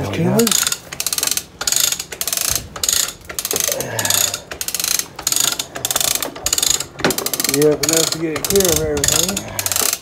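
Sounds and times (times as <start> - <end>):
ratchet wrench clicking: 0.4 - 10.0.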